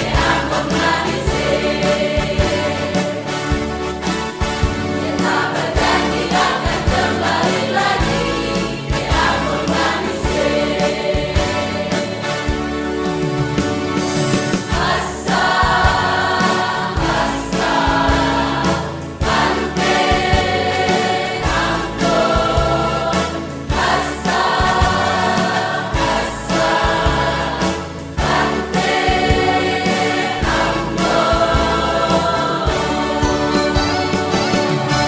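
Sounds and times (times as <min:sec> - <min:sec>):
accompaniment with steady beat: 0:00.0 - 0:35.0
choir singing in harmony: 0:00.0 - 0:35.0.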